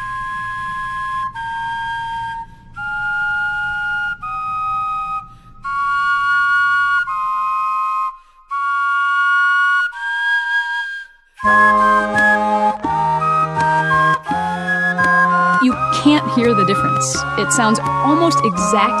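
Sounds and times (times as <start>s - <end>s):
flute-like vegetable instruments: 0.0s - 19.0s.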